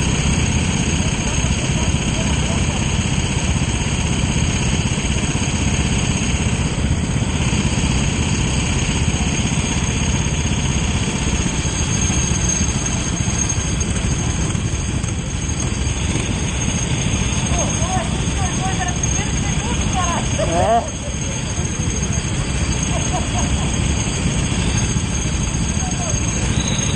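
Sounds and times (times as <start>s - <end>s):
kart engine running: 0.0s - 26.9s.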